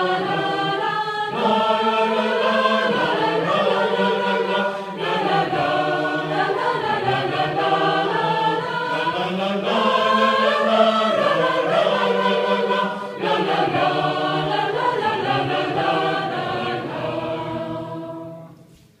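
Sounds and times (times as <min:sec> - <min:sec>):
mixed choir singing unaccompanied: 0:00.0 - 0:18.8.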